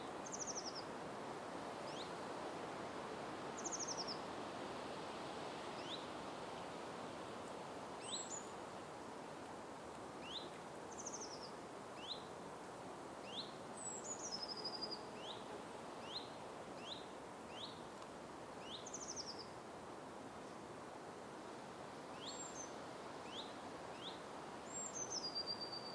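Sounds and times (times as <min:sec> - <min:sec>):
background hiss: 0:00.0 - 0:25.9.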